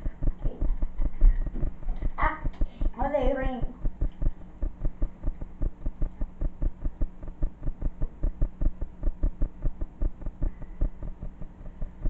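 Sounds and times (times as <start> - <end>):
low hum: 0.0 - 12.0
rapid low thumping: 0.0 - 12.0.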